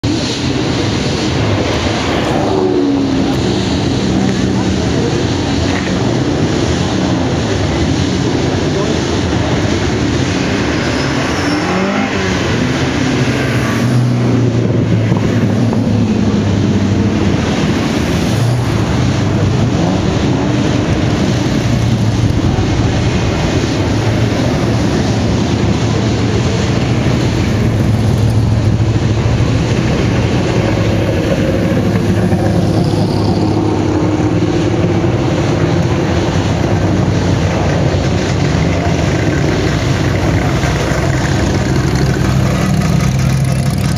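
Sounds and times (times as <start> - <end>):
sports car engines rumbling past: 0.0 - 43.9.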